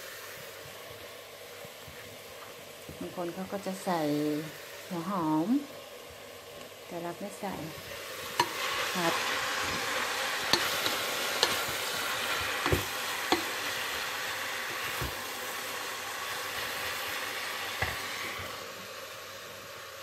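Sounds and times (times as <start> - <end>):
leeks sizzling in a pot: 0.0 - 20.0.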